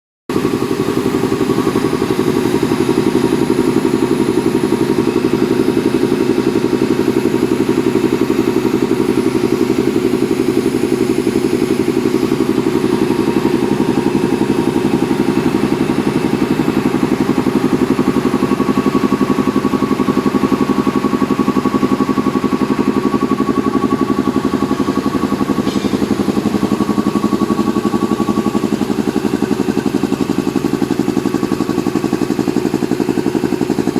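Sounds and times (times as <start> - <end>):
air compressor running: 0.3 - 33.9.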